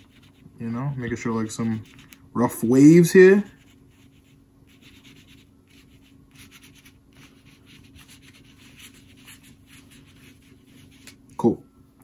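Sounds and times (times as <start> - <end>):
sponge brush dabbing paint on paper: 0.0 - 11.2.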